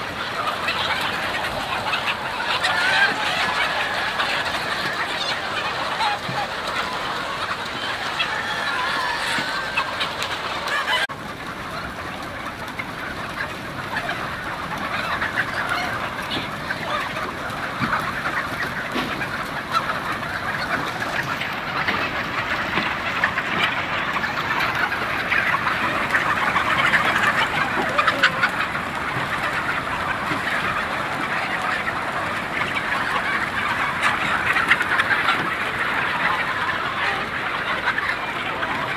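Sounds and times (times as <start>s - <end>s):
flock of chickens clucking: 0.0s - 38.9s.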